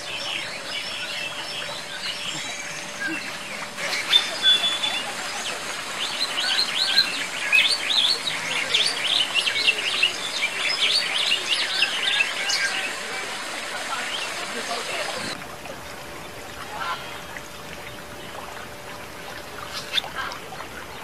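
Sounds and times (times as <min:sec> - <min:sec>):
birds chirping: 0:00.0 - 0:15.4, 0:16.1 - 0:21.0.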